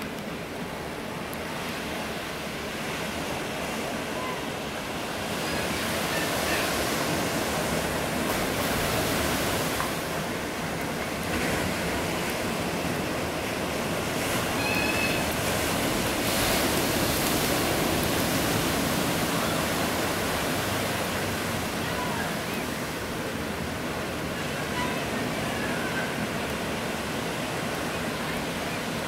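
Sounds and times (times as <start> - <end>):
waves breaking and washing in: 0.0 - 29.0.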